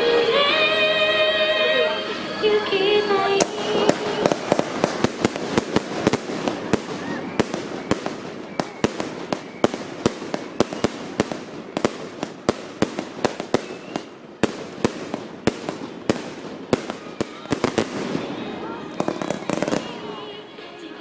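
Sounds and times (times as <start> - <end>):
steady hissing rush: 0.0 - 20.9
fireworks popping and cracking: 3.0 - 20.2.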